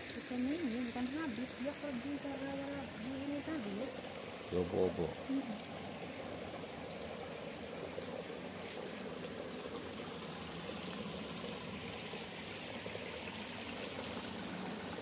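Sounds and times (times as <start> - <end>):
stream water trickling: 0.0 - 15.0.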